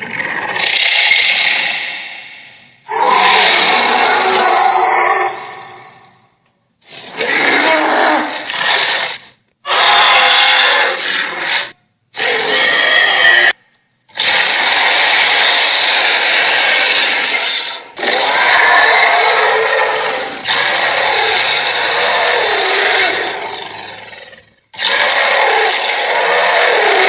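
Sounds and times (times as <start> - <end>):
harsh raspy sound effects: 0.0 - 27.0.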